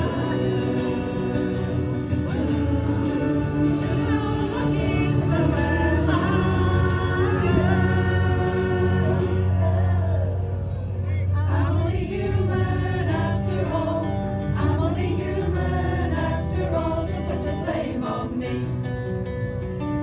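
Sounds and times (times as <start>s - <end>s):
choir singing: 0.0s - 19.1s.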